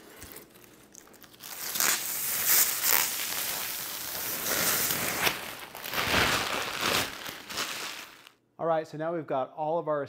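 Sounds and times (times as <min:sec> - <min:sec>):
plastic film peeling and crinkling: 0:00.0 - 0:08.4.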